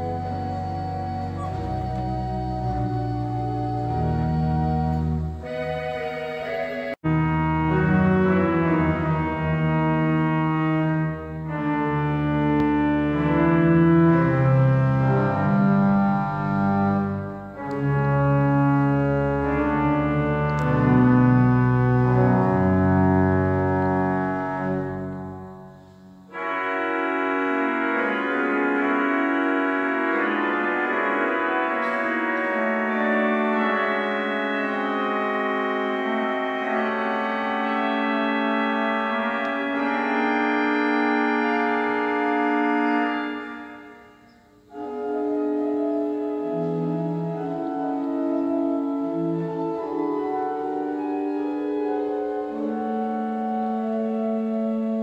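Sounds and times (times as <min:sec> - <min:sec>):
deep organ pedal notes: 0:00.0 - 0:55.0
pipe organ chords: 0:00.0 - 0:55.0.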